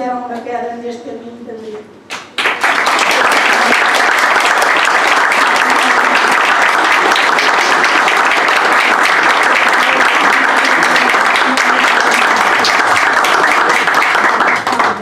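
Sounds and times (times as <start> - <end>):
audience applauding: 2.4 - 15.0.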